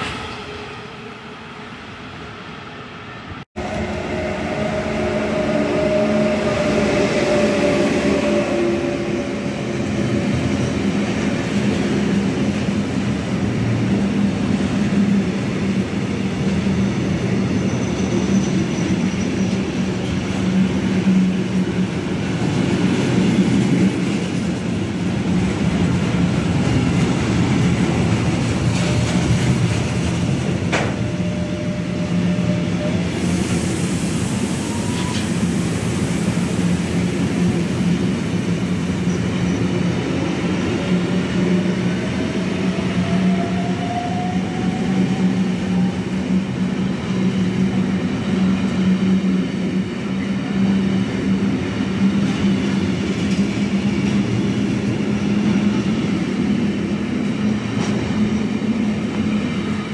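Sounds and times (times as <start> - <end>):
wheels rumbling on rail: 3.3 - 59.9.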